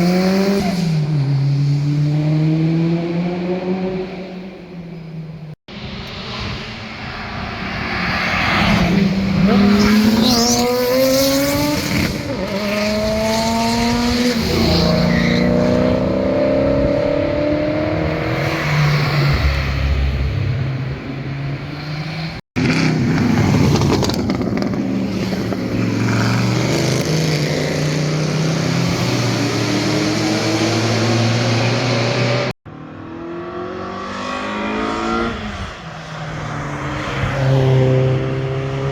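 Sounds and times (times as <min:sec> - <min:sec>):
car engines revving past: 0:05.8 - 0:38.9.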